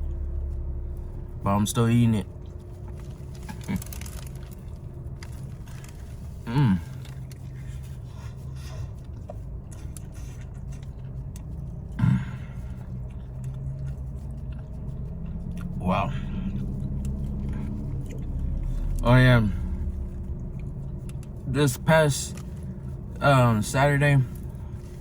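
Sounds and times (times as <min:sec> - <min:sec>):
steady low hum: 0:00.0 - 0:25.0
man eating: 0:02.3 - 0:25.0.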